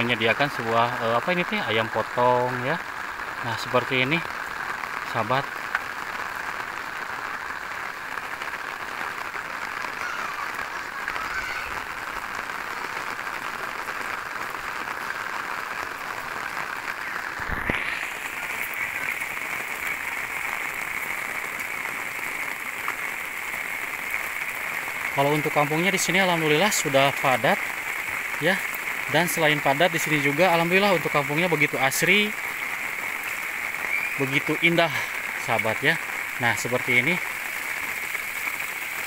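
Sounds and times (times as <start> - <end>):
rain on an umbrella: 0.0 - 39.0.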